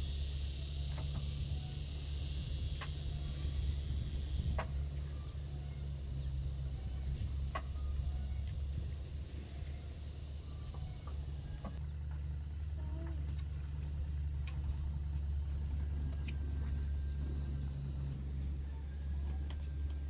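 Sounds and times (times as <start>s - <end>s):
insects trilling: 0.0s - 20.0s
low steady rumble: 0.0s - 20.0s.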